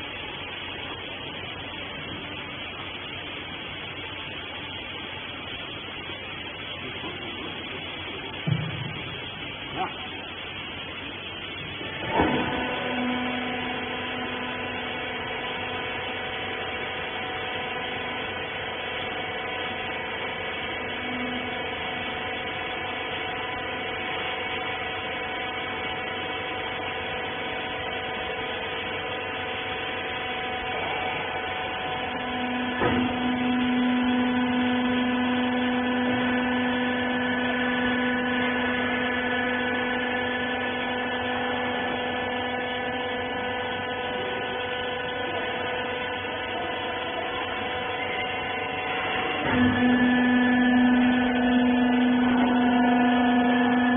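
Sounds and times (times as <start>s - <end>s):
baler machine hum: 0.0s - 53.9s.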